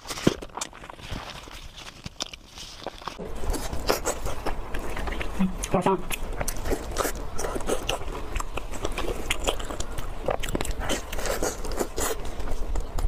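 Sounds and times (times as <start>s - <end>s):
person chewing meat: 0.0s - 13.0s.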